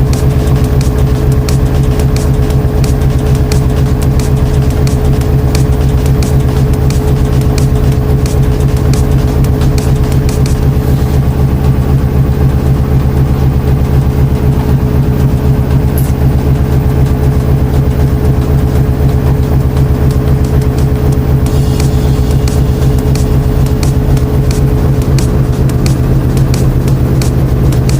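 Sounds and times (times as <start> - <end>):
washing machine running: 0.0 - 27.9.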